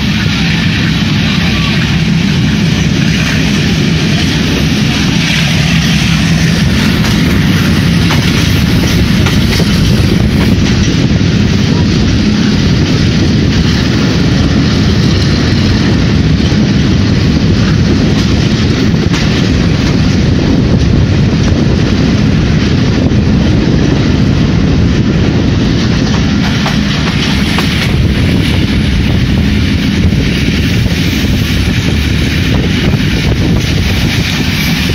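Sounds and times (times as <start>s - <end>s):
train wheels rolling on rails: 0.0s - 34.9s.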